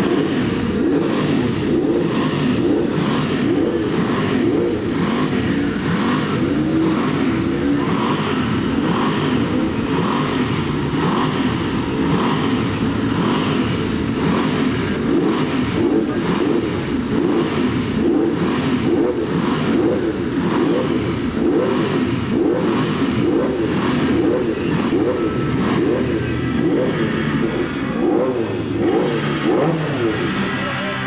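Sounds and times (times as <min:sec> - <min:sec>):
racing motorcycle engines: 0:00.0 - 0:31.0.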